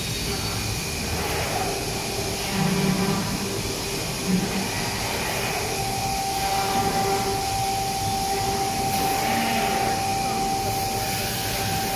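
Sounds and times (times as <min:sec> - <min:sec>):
factory machinery hiss and hum: 0:00.0 - 0:11.9
steady high whine: 0:00.0 - 0:11.9.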